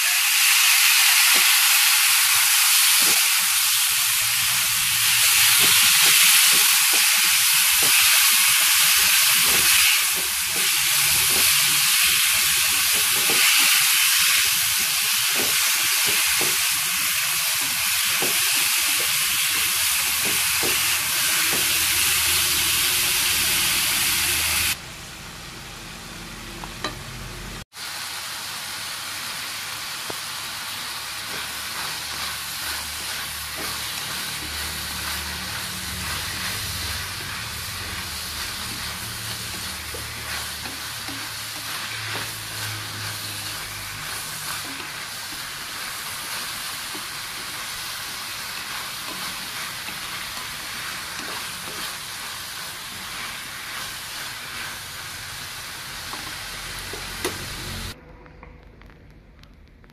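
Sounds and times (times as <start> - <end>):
food sizzling in hot oil: 0.0 - 24.8, 27.7 - 58.0.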